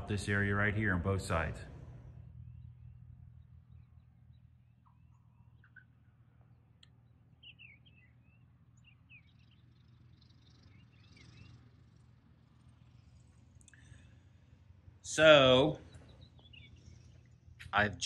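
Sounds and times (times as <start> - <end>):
low steady hum: 0.0 - 18.0
songbirds chirping: 0.0 - 18.0.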